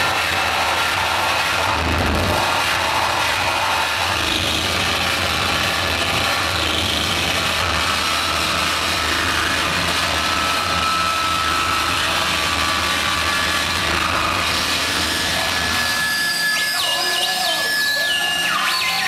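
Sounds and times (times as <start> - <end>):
harsh synthesizer noise: 0.0 - 19.0.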